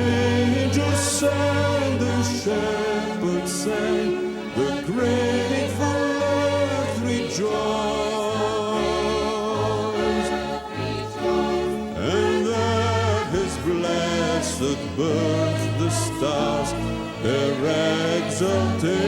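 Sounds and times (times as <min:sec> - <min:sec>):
choir singing long notes: 0:00.0 - 0:19.0.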